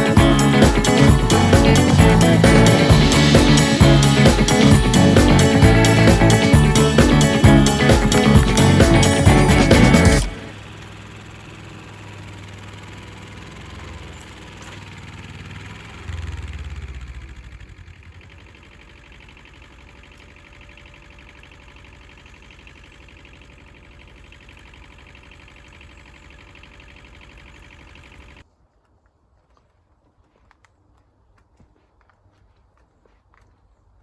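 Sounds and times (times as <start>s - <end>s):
diesel engine running: 0.0s - 28.4s.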